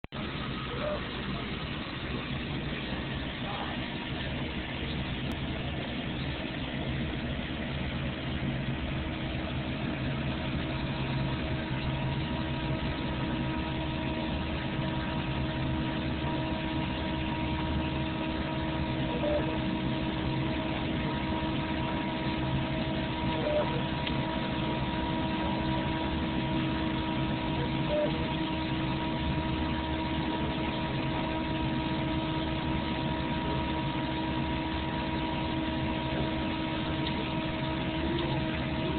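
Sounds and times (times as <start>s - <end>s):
printer motors humming and whining: 0.2s - 38.9s.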